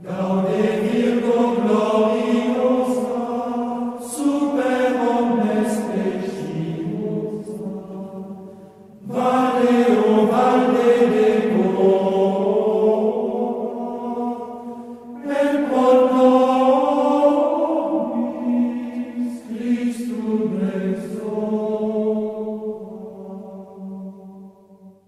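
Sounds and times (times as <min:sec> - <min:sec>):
chant with long held notes: 0:00.0 - 0:25.0.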